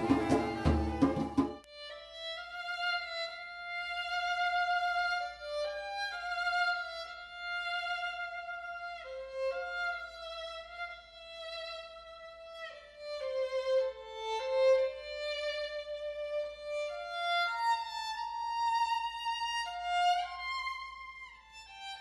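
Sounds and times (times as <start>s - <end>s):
solo violin slow melody: 0.0s - 22.0s.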